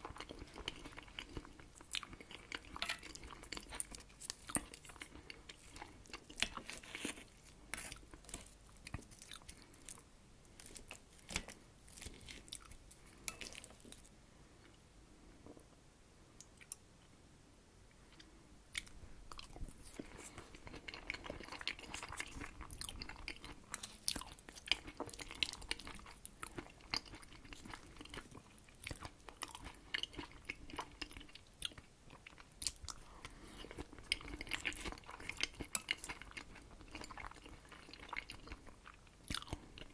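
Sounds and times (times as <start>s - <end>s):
close chewing and mouth smacking: 0.0s - 14.8s, 18.1s - 39.9s.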